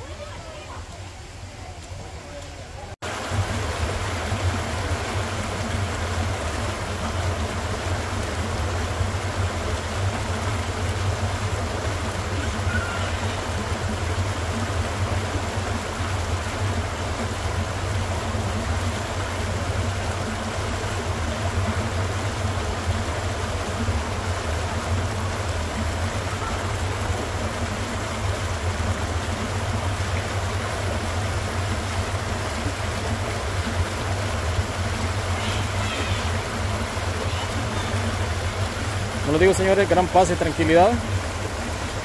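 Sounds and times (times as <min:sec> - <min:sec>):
water rushing into a pool: 0:00.0 - 0:42.0.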